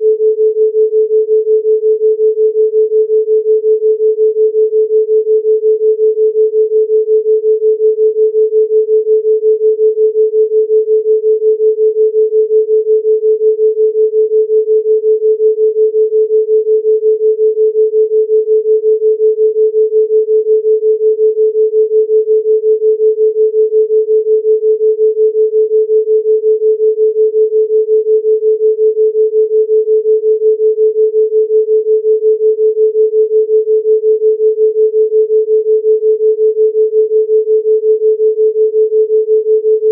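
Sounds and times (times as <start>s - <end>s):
pulsing sine tone: 0.0s - 39.9s.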